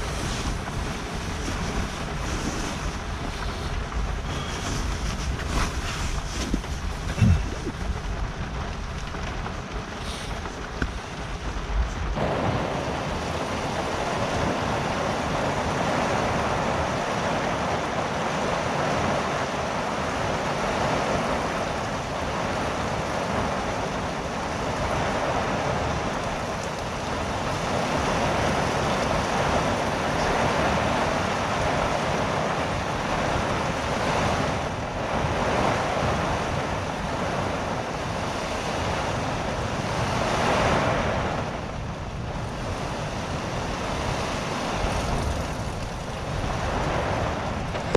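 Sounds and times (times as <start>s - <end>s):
rain: 0.0s - 47.9s
storm wind: 0.0s - 47.9s.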